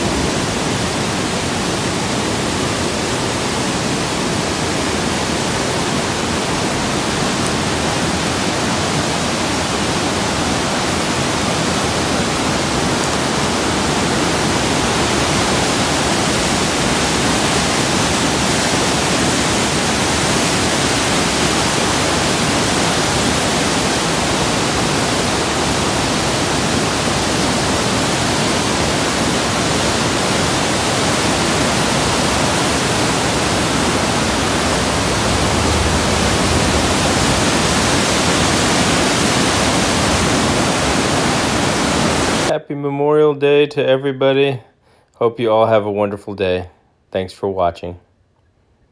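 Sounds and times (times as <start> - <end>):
waterfall rushing over boulders: 0.0 - 42.5.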